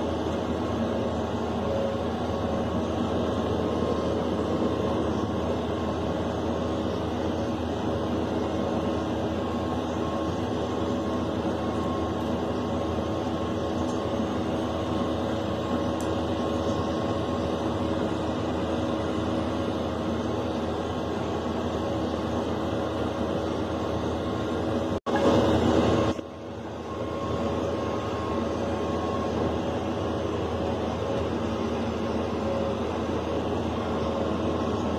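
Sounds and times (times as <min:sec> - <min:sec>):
tractor and mower running: 0:00.0 - 0:34.9.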